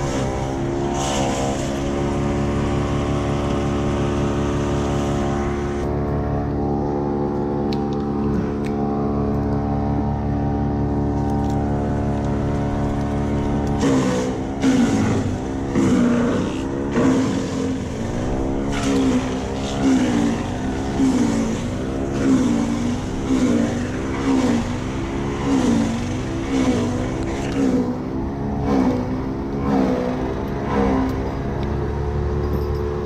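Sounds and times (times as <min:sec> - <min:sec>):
small engine running fast: 0:00.0 - 0:33.0.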